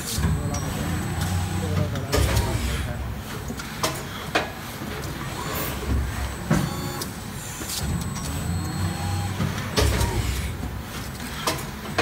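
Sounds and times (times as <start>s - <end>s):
injection molding machine rumble: 0.0s - 12.0s.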